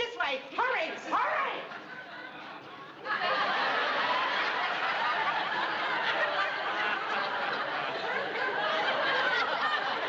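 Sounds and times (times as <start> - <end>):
studio audience laughing: 1.6 - 10.0.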